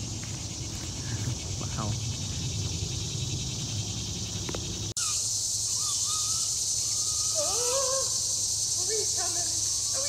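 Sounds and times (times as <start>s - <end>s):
crickets and insects chirping: 0.0s - 10.0s
whistled calls: 1.1s - 10.0s.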